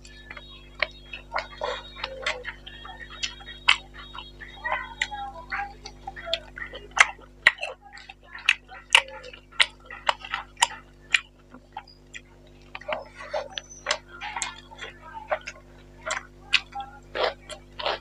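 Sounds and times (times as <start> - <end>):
person chewing with smacking: 0.0 - 18.0.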